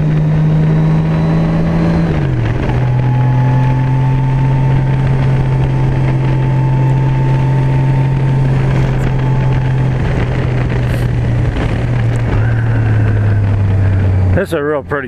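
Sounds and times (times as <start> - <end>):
motorcycle engine droning: 0.0 - 15.0
wind and road noise: 0.0 - 15.0.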